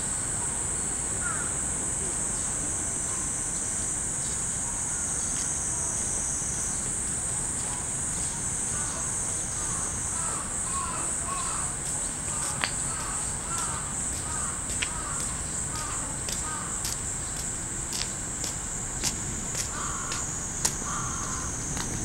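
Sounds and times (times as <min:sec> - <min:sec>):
cicadas singing: 0:00.0 - 0:22.0.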